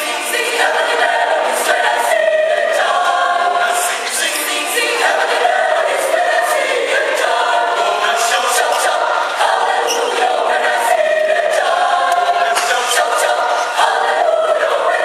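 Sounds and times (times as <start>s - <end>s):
mixed choir singing: 0.0s - 15.0s.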